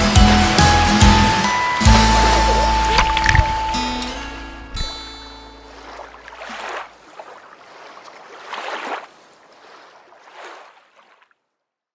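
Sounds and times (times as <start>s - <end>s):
water swishing and sloshing: 1.6s - 11.5s.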